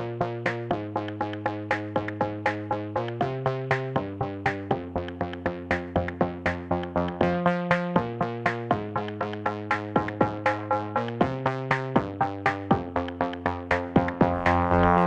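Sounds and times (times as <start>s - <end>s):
electronic music with plucked synth: 0.0s - 15.0s.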